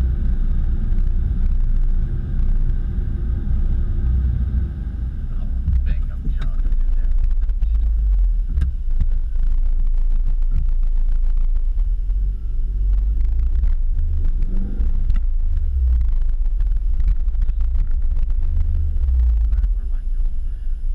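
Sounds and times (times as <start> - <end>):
rising and falling whine: 0.0 - 20.9.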